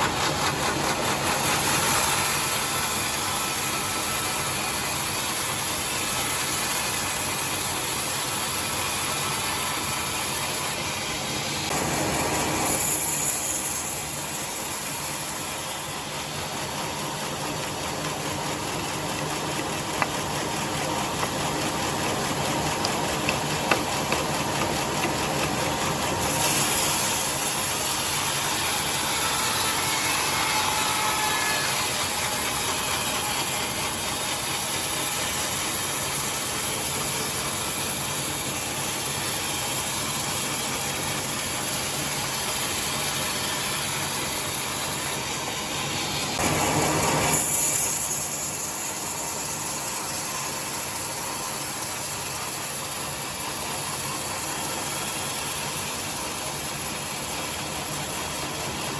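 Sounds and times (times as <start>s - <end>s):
sawmill machinery sawing a log: 0.0s - 58.9s.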